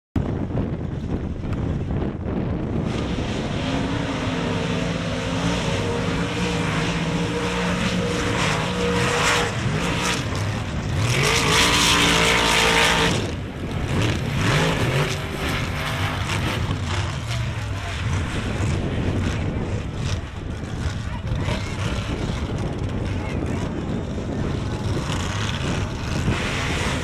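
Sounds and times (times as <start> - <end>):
truck engines revving: 0.2 - 27.0
truck throttling through mud: 2.6 - 27.0.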